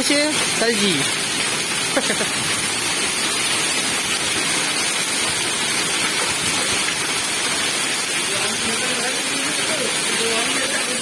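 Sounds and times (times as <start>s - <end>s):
heavy rain and hail pelting: 0.0s - 11.0s.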